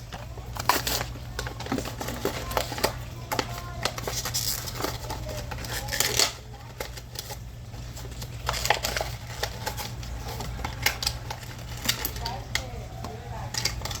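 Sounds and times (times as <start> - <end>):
plastic packaging being torn: 0.0 - 14.0.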